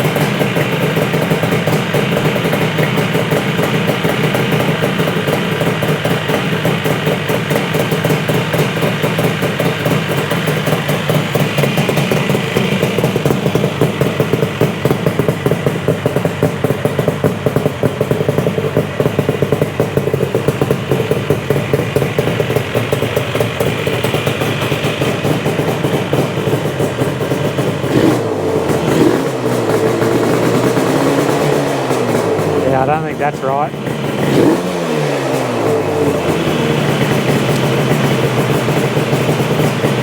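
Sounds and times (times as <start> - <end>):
two-stroke motorcycle idling: 0.0 - 40.0.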